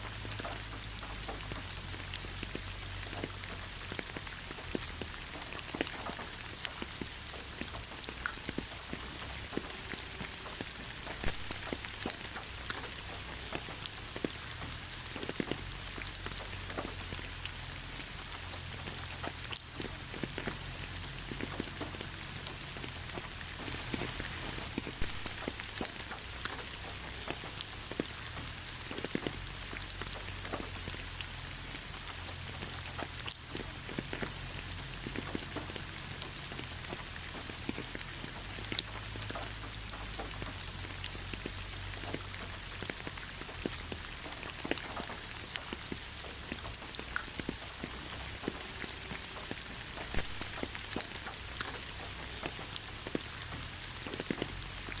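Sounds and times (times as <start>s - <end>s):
rain hissing: 0.0s - 55.0s
raindrops tapping: 0.0s - 55.0s.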